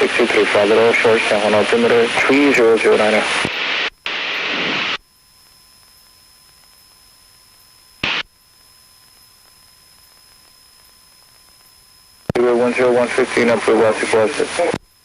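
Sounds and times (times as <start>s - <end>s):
faint thin whine: 0.0s - 15.0s
radio static hiss: 0.0s - 15.0s
static crackle: 0.0s - 15.0s.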